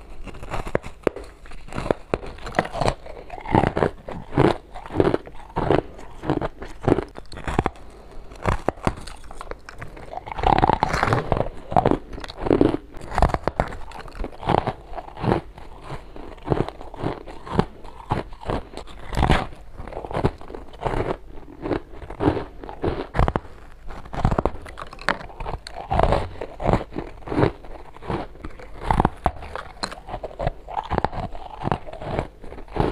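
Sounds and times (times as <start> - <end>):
teeth crunching frost: 0.0 - 32.9.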